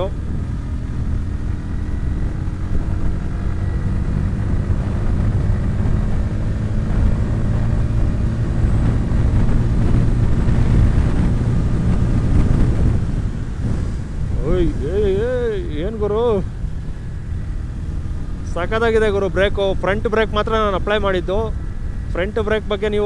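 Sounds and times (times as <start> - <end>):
motorcycle engine running: 0.0 - 23.0
wind rumble on microphone: 0.0 - 23.0.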